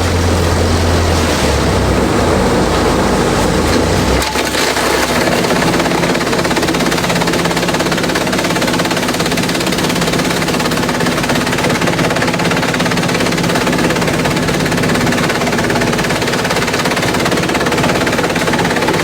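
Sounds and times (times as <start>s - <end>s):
machine hum: 0.0s - 19.0s
shredder chopping bamboo: 0.0s - 19.0s.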